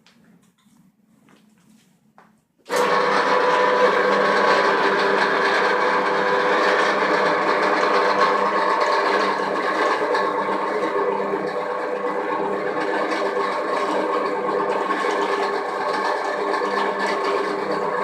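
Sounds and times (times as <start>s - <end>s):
pipe threading machine running: 2.7s - 18.0s.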